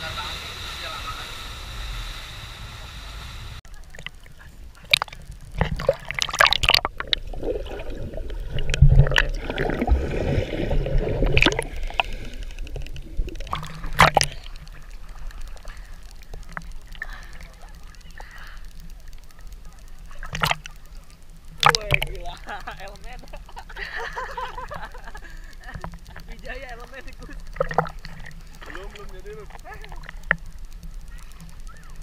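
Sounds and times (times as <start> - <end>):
underwater bubbling: 3.6 - 32.0
sea water splashing: 3.7 - 32.0.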